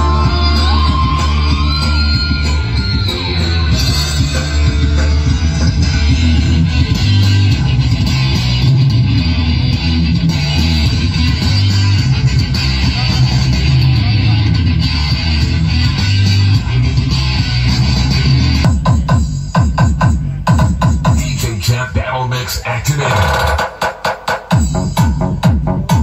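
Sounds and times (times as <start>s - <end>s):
loud rock music with heavy bass: 0.0s - 26.0s.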